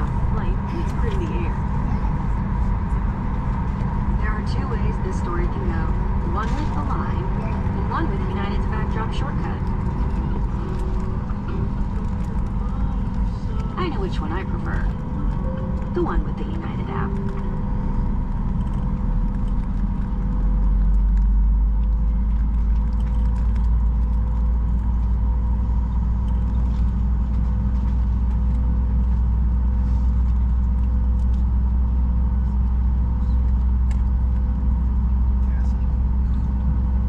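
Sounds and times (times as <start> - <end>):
airplane cabin rumble: 0.0 - 37.0
jet engine hum: 0.0 - 37.0.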